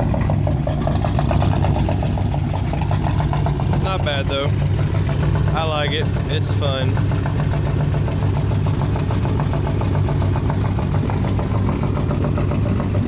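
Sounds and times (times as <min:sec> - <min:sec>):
car engine idling with ticking knock: 0:00.0 - 0:13.0.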